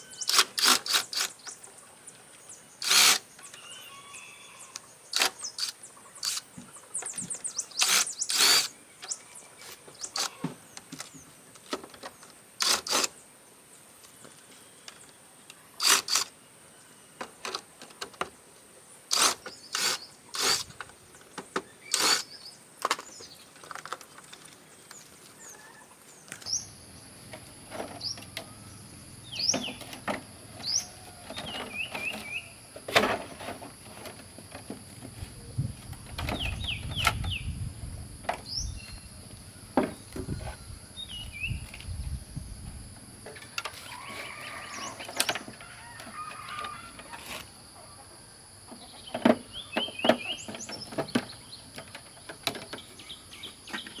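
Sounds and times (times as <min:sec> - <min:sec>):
birds chirping: 0:00.0 - 0:47.1, 0:47.8 - 0:54.0.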